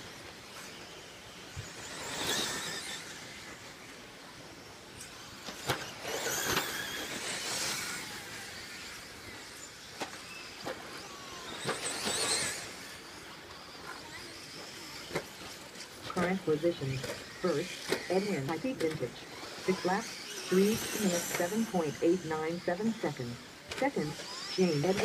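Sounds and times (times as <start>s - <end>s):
rc truck motors whining: 0.0s - 25.0s
rc trucks clacking over jumps: 0.0s - 25.0s.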